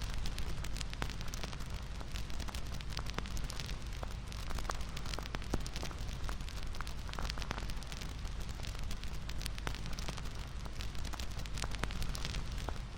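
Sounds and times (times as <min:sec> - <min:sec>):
wood fire crackling and popping: 0:00.0 - 0:12.9.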